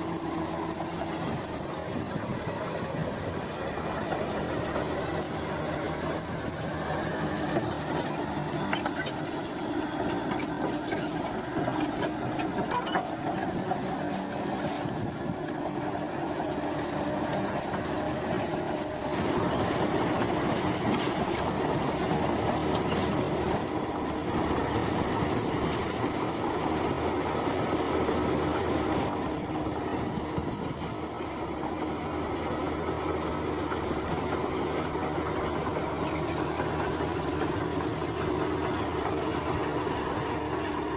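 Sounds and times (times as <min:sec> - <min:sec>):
diesel machinery engine hum: 0:00.0 - 0:40.9.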